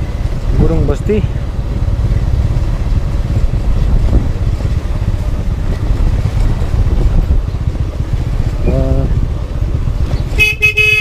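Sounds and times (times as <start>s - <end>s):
motorcycle engine rumble: 0.0s - 11.0s
wind buffeting microphone: 0.0s - 11.0s.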